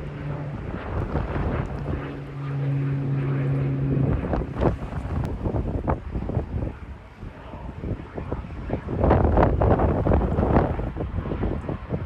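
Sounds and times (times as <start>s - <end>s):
low hum: 0.0s - 12.0s
wind buffeting microphone: 0.0s - 12.0s.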